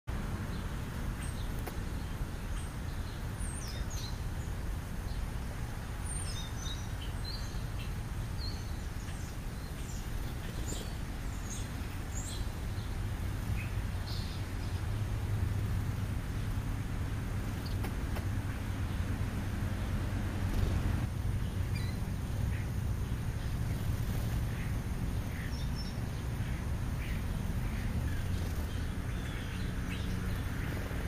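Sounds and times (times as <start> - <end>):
road traffic rumble: 0.1 - 31.0
vehicle approaching: 0.1 - 31.0
sparrows chirping: 0.2 - 31.0.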